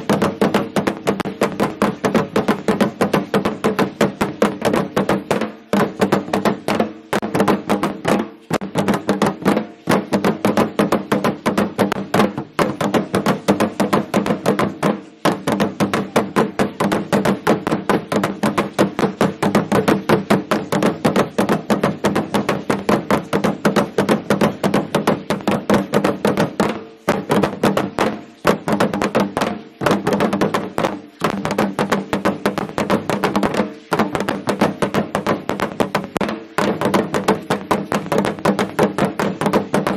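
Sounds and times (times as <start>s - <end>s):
fast drumbeat: 0.0s - 39.9s
seed-pod ankle rattles shaking: 0.0s - 39.9s.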